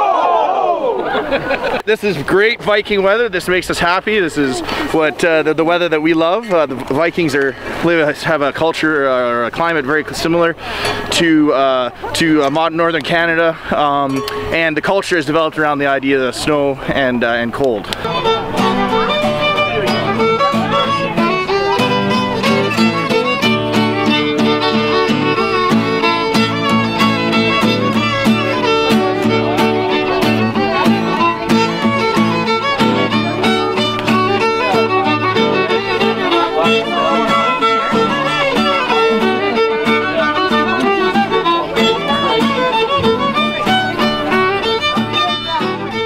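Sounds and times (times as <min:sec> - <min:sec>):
fiddle music with steady beat: 0:01.3 - 0:46.0.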